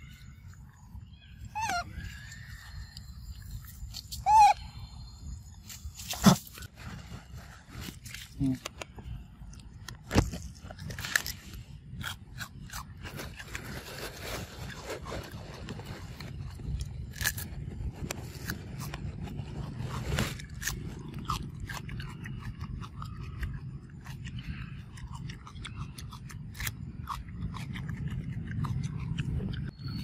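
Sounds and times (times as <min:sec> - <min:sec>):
monkey chewing cucumber: 0:00.0 - 0:04.8, 0:07.6 - 0:30.0.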